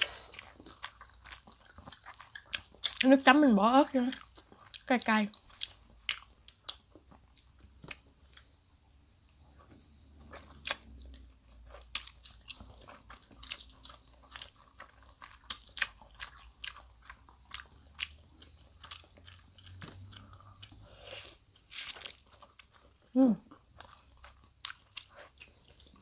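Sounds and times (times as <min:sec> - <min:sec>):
chewing with mouth clicks and smacks: 0:00.0 - 0:26.0.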